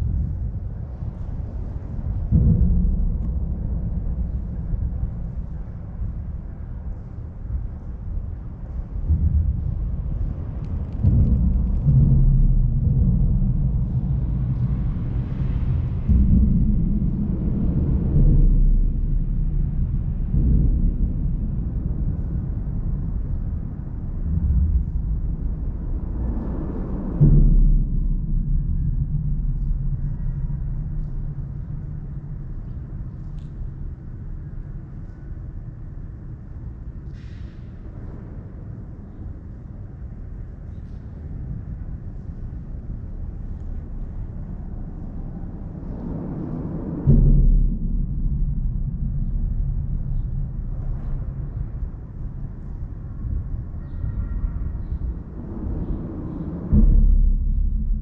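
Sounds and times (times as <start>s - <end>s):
low uneven rumble: 0.0s - 58.0s.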